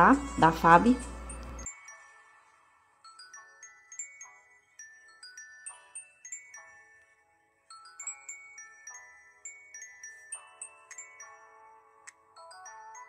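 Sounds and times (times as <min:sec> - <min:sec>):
tinkling bell-like melody: 0:00.0 - 0:13.0.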